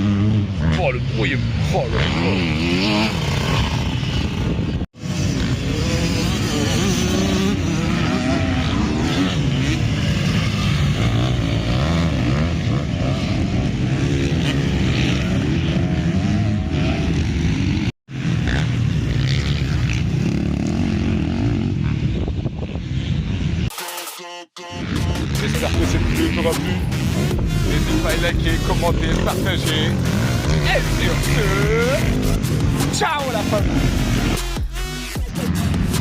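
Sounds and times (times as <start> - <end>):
motocross bikes revving: 0.0 - 23.7, 24.8 - 36.0.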